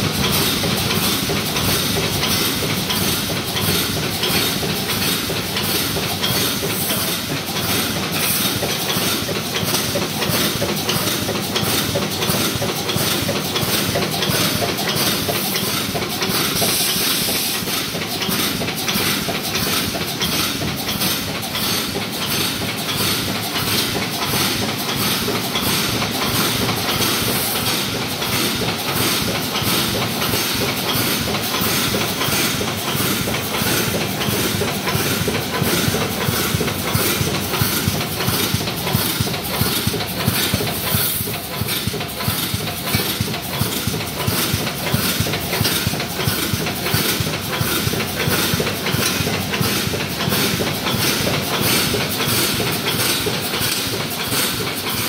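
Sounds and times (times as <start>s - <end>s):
constant mechanical noise: 0.0s - 55.0s
welding machine clattering: 0.0s - 55.0s.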